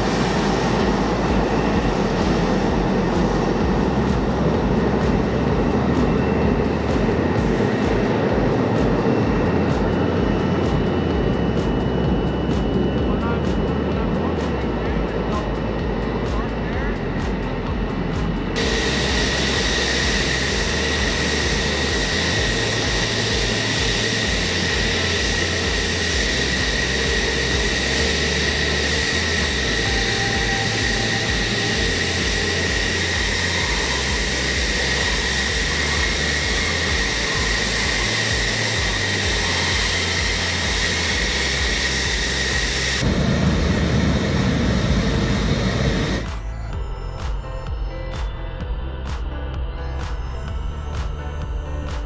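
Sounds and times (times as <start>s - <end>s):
jet fighters taxiing: 0.0s - 46.4s.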